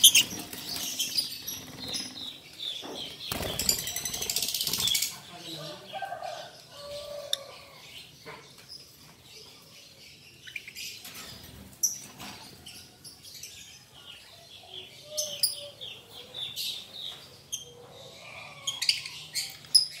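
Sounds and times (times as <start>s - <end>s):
lovebirds chirping: 0.0s - 20.0s.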